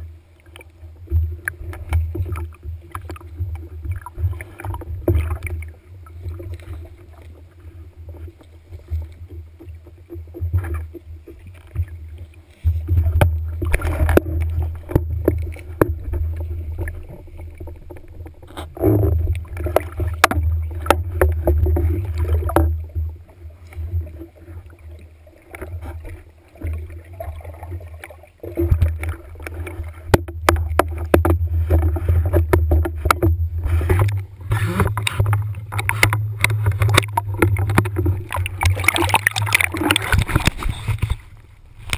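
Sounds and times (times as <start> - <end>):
muffled underwater rumble: 0.0 - 41.9.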